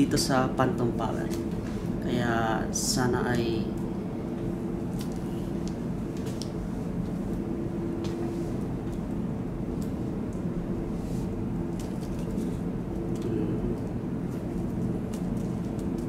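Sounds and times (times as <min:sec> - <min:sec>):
faint constant hum: 0:00.0 - 0:16.0
low background rumble: 0:00.0 - 0:16.0.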